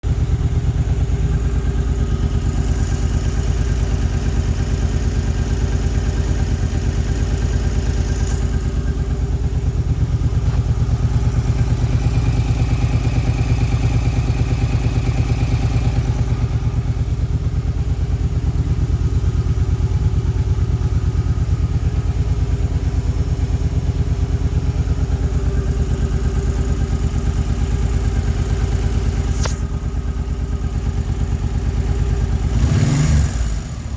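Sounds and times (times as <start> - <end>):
engine ticking: 0.0 - 33.9
motorcycle engine idling: 0.0 - 33.9.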